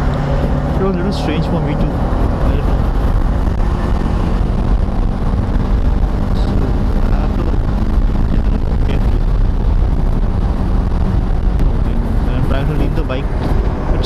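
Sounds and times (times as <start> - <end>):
motorcycle engine cruising: 0.0 - 14.0
wind rush over microphone: 0.0 - 14.0.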